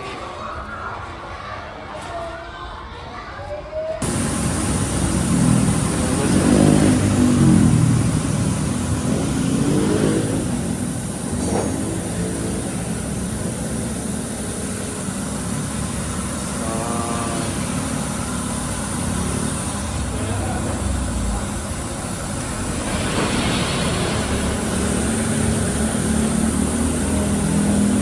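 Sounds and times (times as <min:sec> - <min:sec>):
road noise: 0:04.0 - 0:28.0
vehicle engine accelerating: 0:04.0 - 0:28.0.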